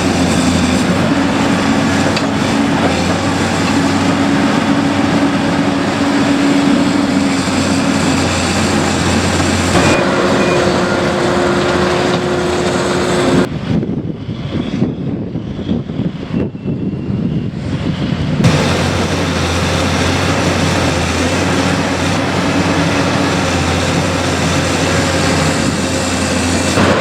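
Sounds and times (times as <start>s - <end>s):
diesel machinery engine drone: 0.0s - 27.0s.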